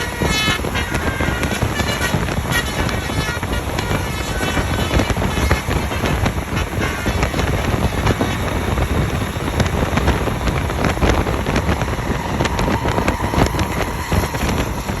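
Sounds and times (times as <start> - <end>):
heavy vehicles rumbling past: 0.0 - 15.0
wind buffeting microphone: 0.0 - 15.0.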